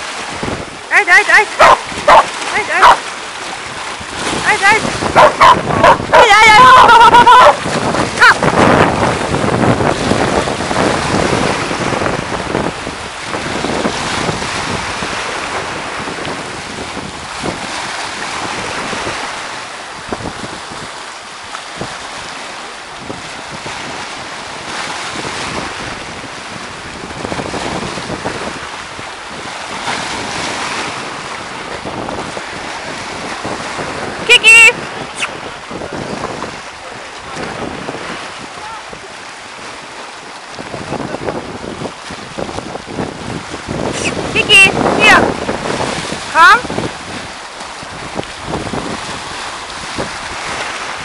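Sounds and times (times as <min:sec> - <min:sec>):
surf breaking over rocks: 0:00.0 - 0:51.0
wind buffeting microphone: 0:00.0 - 0:51.0.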